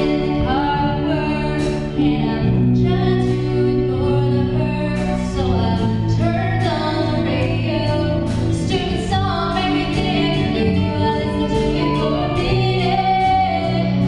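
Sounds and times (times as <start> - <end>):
country band playing: 0.0 - 14.0
woman singing into a microphone: 0.0 - 14.0.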